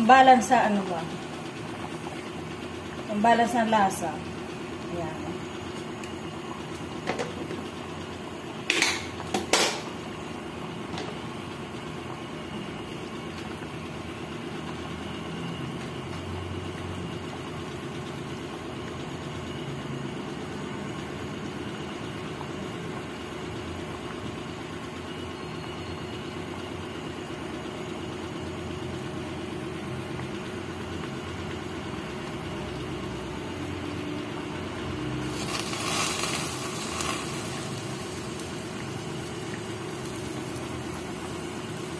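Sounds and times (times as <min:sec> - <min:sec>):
stew bubbling in a pan: 0:00.0 - 0:41.9.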